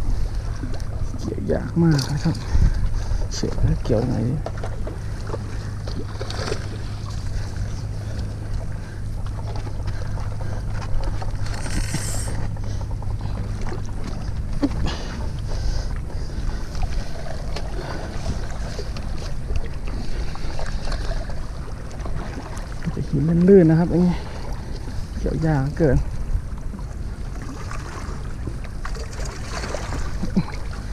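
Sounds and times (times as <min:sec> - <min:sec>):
wind rumbling on microphone: 0:00.0 - 0:30.9.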